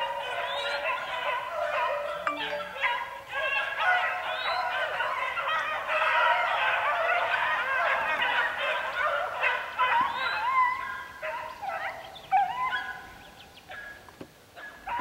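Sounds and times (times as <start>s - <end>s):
distant hounds baying: 0.0s - 15.0s.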